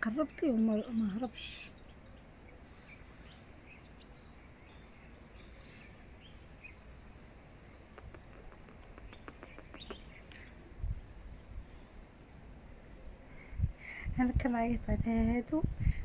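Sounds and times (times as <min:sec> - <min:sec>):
birds chirping faintly: 0:00.0 - 0:13.6.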